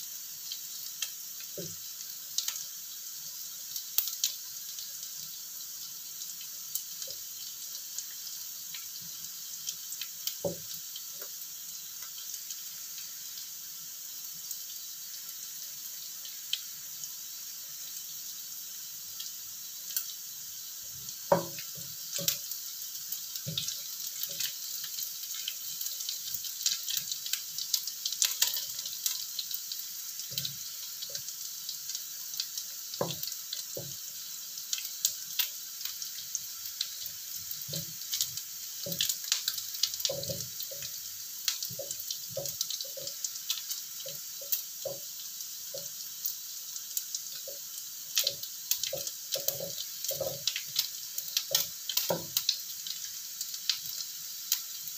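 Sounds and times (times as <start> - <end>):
food sizzling in oil: 0.0 - 54.9.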